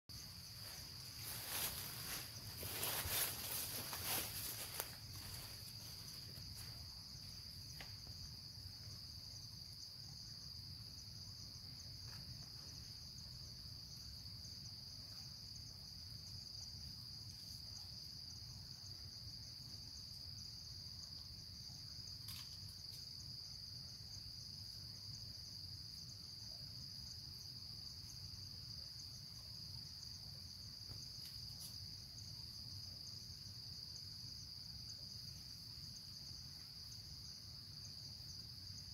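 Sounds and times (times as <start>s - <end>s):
insects high-pitched drone: 0.1s - 38.9s.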